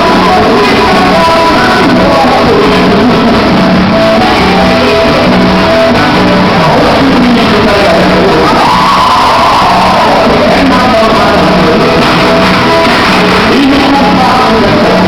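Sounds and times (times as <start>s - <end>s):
folk dance music with singing: 0.0s - 15.0s.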